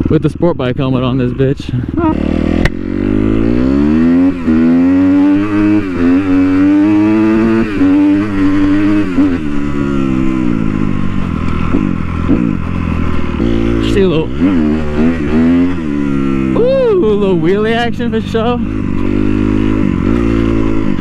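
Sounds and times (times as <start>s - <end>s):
dirt bike engine accelerating: 0.0s - 21.0s.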